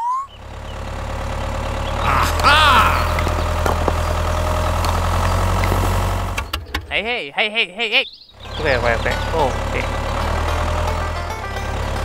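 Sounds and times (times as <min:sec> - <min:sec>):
tractor engine rumbling: 0:00.2 - 0:12.0.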